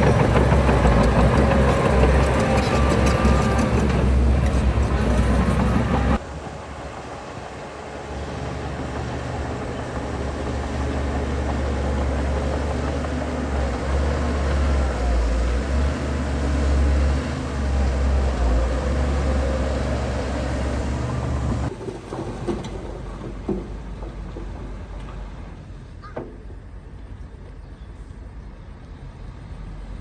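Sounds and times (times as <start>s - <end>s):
diesel engine rumbling: 0.0s - 29.5s.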